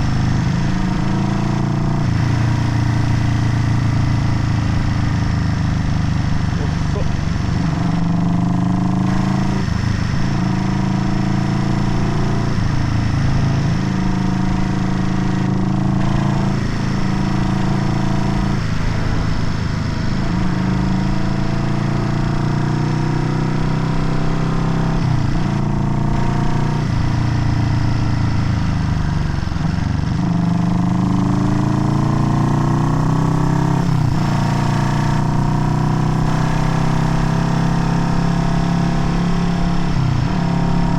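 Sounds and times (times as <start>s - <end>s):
motorcycle engine revving through gears: 0.0s - 40.9s.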